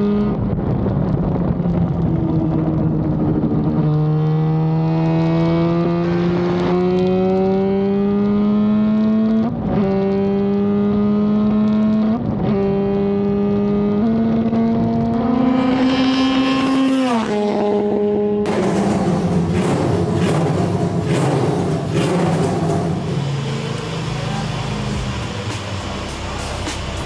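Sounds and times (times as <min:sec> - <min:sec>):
rotary engine revving: 0:03.4 - 0:27.0.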